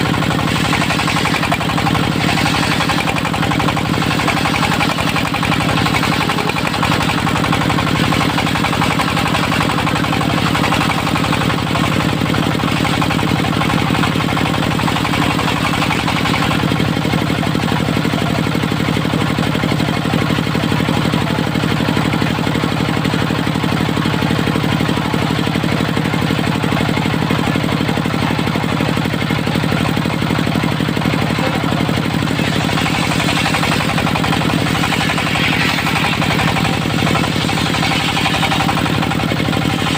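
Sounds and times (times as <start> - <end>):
diesel engine running sawmill: 0.0 - 39.9.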